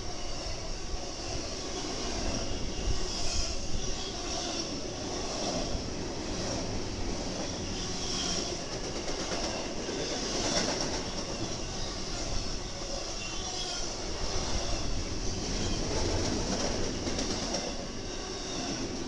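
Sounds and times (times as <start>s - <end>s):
train railcars rolling on track: 0.0s - 19.0s.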